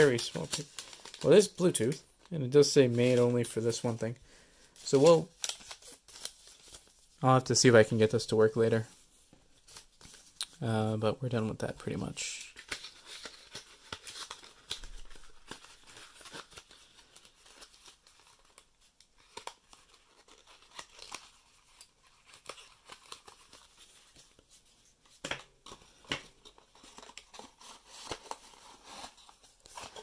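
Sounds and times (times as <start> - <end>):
paper and card rustling: 0.0 - 10.6, 11.8 - 30.0.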